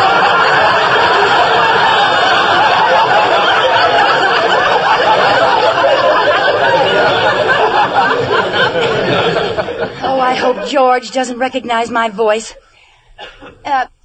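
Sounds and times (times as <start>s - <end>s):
audience laughing: 0.0s - 11.4s.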